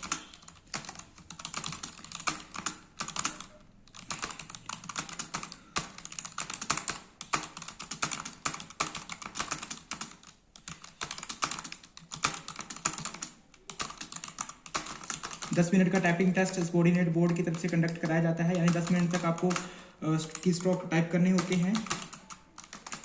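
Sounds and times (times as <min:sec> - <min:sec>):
keyboard typing clicks: 0:00.0 - 0:23.0.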